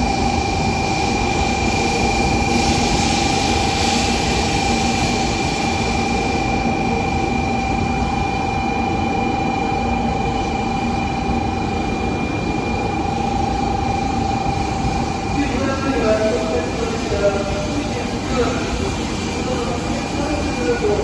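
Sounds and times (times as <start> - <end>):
train equipment humming: 0.0 - 21.0.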